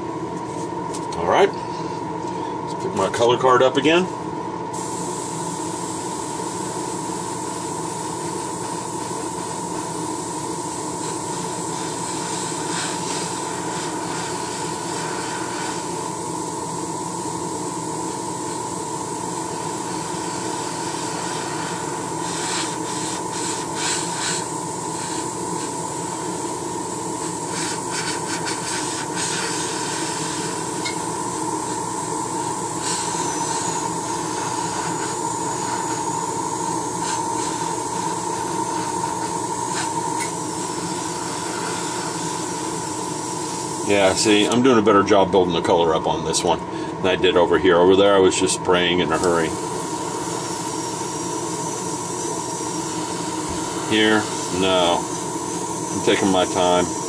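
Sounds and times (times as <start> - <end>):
air compressor hum: 0.0 - 57.0
airbrush spraying hiss: 4.8 - 44.6, 49.1 - 57.0.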